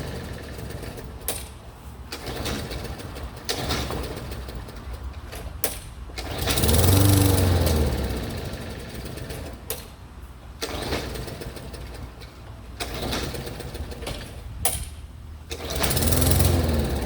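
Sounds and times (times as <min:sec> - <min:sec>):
lawn mower engine sputtering: 0:00.0 - 0:09.9, 0:10.6 - 0:17.0.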